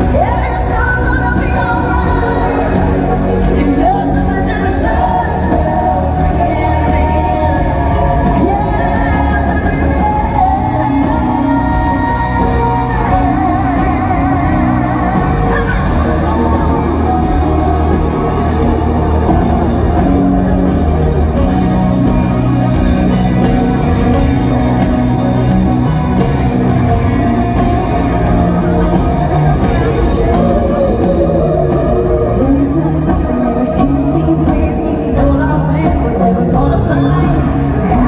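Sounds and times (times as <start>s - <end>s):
woman singing: 0.0s - 22.2s, 28.9s - 38.0s
electric guitar: 0.0s - 38.0s
live country-rock band: 0.0s - 38.0s.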